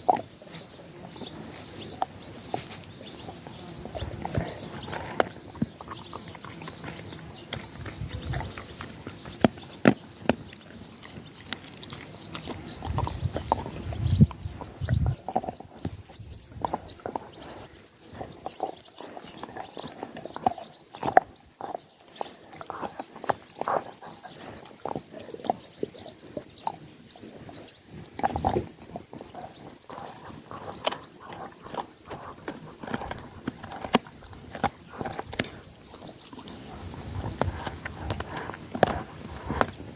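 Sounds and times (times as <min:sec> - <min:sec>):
teeth cracking on bone: 0:01.9 - 0:17.6, 0:18.4 - 0:26.9, 0:28.0 - 0:39.9
dog gnawing a bone: 0:01.9 - 0:17.7, 0:18.3 - 0:26.0, 0:28.0 - 0:39.9.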